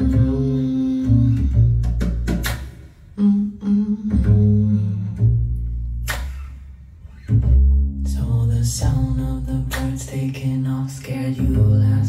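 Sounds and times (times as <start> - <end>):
deep bass notes: 0.0 - 12.0.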